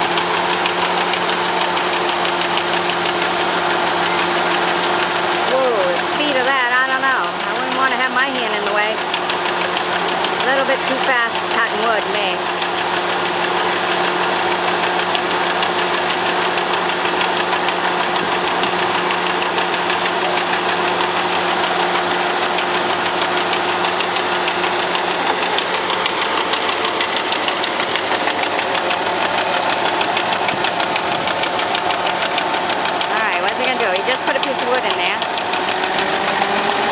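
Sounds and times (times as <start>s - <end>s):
gasoline engine chugging: 0.0s - 36.9s
machine whining: 0.0s - 36.9s.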